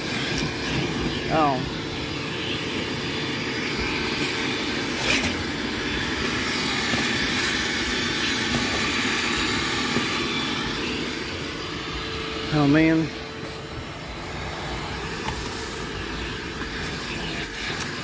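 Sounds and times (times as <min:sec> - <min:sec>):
shop vac sucking on carpet: 0:00.0 - 0:18.0.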